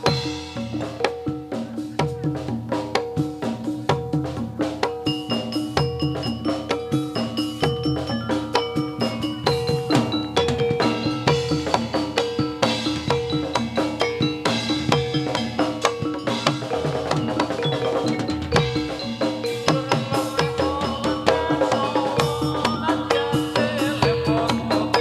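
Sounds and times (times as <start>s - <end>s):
gamelan music: 0.0s - 25.0s.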